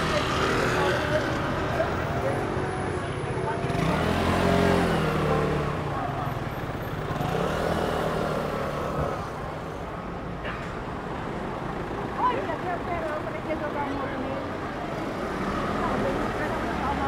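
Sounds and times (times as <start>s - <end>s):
chatter of people: 0.0s - 17.0s.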